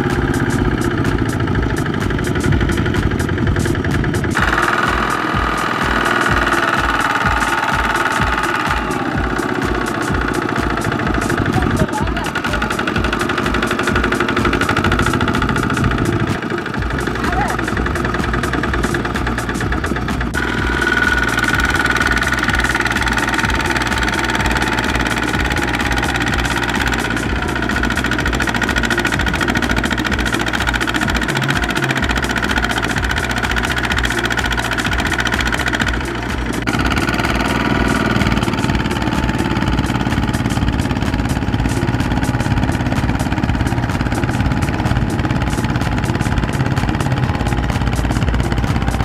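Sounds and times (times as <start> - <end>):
diesel engines running under load: 0.0 - 49.0.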